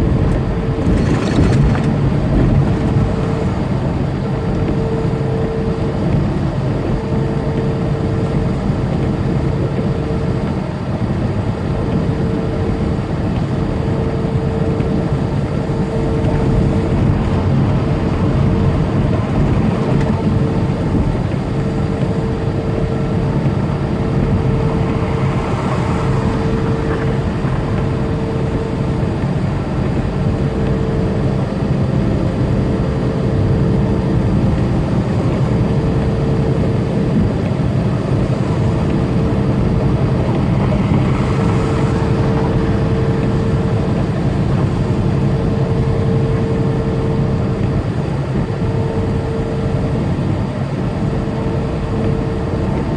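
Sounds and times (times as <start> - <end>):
faint whine: 0.0 - 52.9
truck engine and tyres droning: 0.0 - 52.9.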